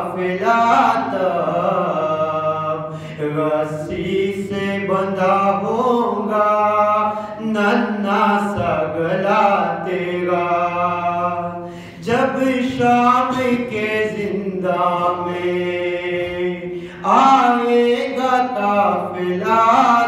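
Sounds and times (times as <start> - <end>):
man chanting unaccompanied: 0.0 - 20.0.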